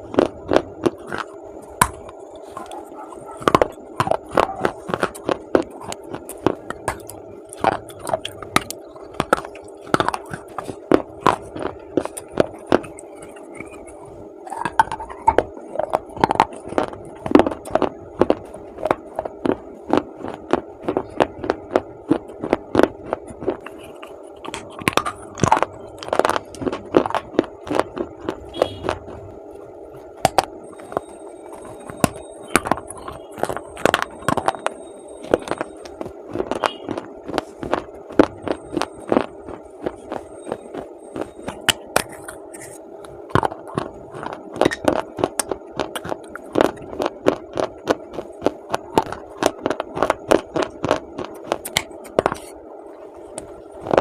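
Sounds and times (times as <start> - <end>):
chewing dry clay crunches: 0.0 - 54.0
faint hum: 0.0 - 54.0.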